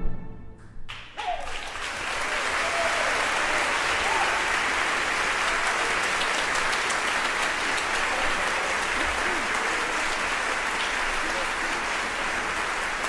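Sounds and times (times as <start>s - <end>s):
audience applauding: 0.9s - 13.0s.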